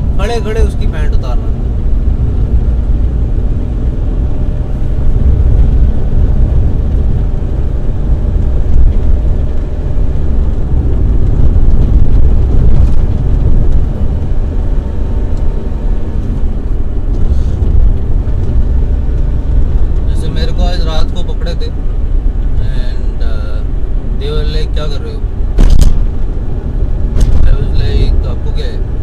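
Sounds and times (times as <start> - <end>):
car cabin rumble: 0.0 - 29.0.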